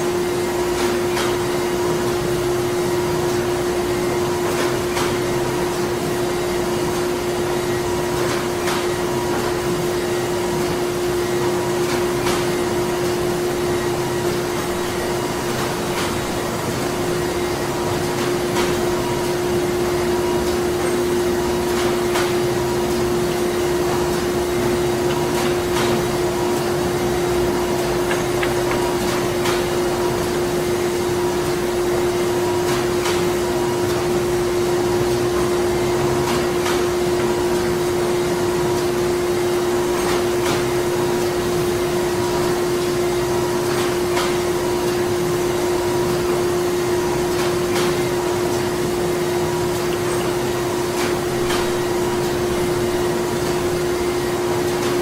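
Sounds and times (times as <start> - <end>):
factory machinery drone: 0.0 - 55.0.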